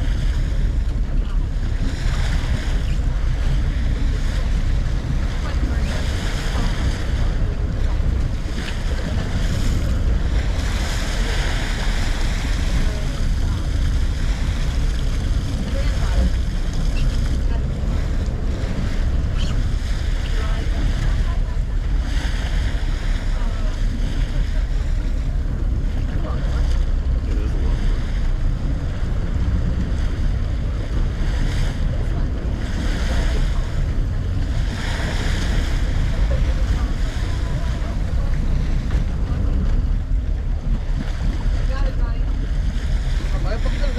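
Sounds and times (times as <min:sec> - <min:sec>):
water rushing: 0:00.0 - 0:43.9
wind buffeting microphone: 0:00.0 - 0:43.9.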